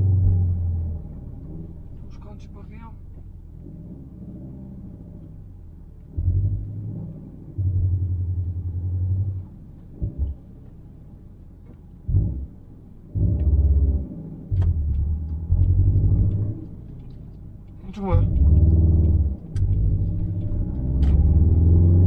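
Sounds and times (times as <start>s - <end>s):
car low drone: 0.0s - 22.0s
deep rumble bursts: 0.0s - 22.0s.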